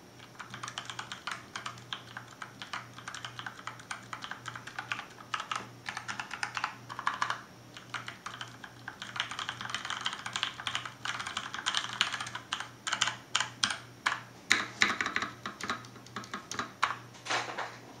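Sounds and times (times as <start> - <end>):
mechanical keyboard typing: 0.2 - 17.0.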